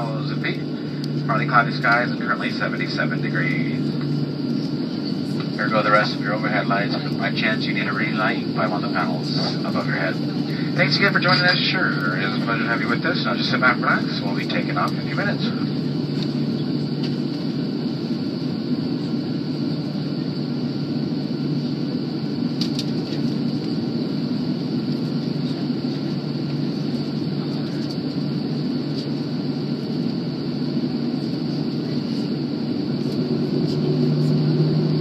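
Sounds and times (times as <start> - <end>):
airliner cabin engine drone: 0.0 - 35.0.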